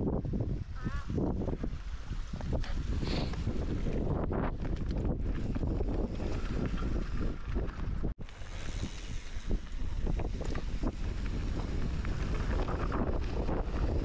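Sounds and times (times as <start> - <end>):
wind buffeting microphone: 0.0 - 14.0
bike rattling over rocks: 2.4 - 14.0.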